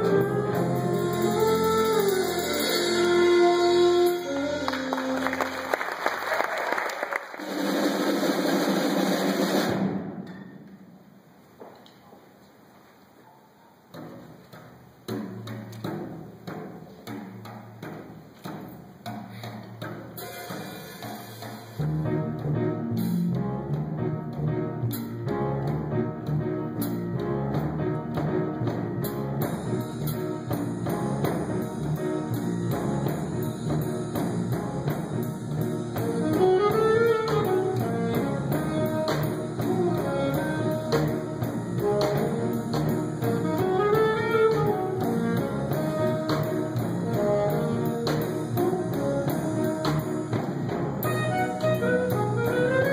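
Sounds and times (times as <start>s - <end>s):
drum kit beat: 0.0s - 5.8s, 7.3s - 10.4s, 13.9s - 52.9s
live jazz band playing: 0.0s - 10.2s, 13.9s - 52.9s.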